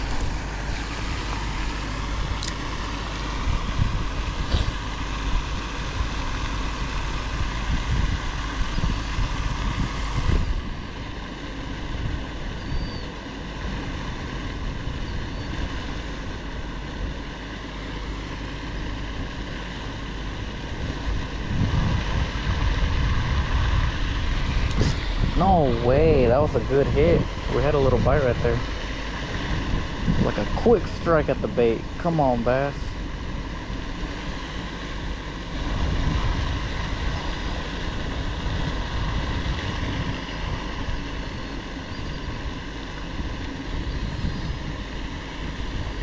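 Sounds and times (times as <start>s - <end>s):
wind buffeting microphone: 0.0s - 17.3s, 18.8s - 34.3s, 35.0s - 46.0s.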